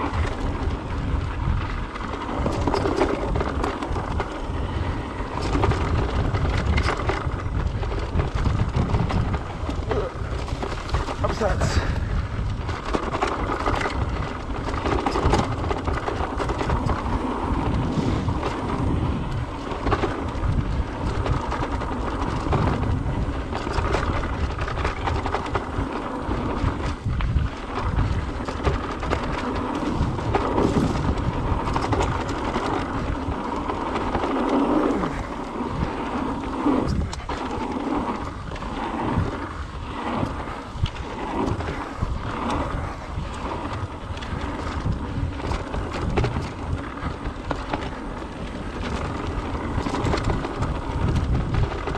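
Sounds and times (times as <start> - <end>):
bike clicks and rattles: 0.0 - 51.9
bike tyre noise on dirt: 0.0 - 51.9
wind rumble on microphone: 0.0 - 51.9.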